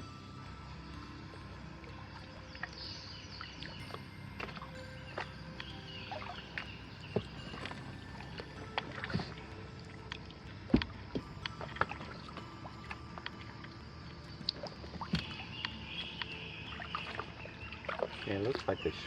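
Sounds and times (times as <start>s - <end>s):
paddle strokes with splashes: 2.0s - 19.0s.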